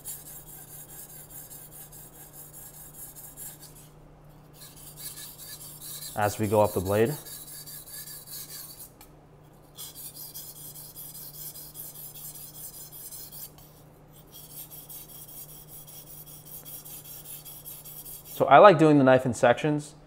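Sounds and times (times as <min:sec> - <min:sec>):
knife scraping on whetstone: 0:00.0 - 0:03.9, 0:04.5 - 0:09.0, 0:09.6 - 0:18.4.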